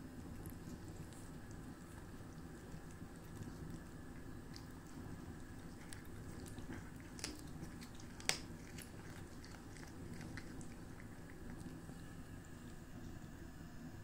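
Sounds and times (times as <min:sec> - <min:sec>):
cat chewing crunching: 0:00.0 - 0:12.8.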